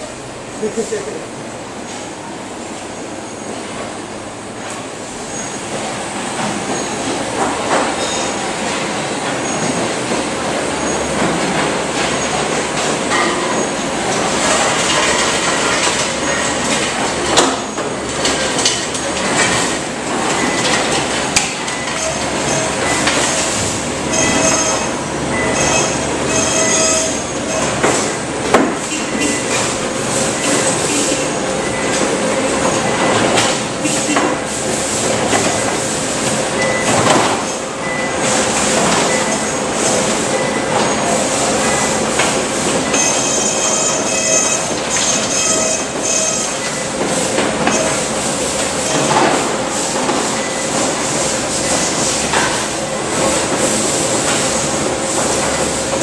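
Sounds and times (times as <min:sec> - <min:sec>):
machinery clanks and knocks: 0:04.6 - 0:56.0.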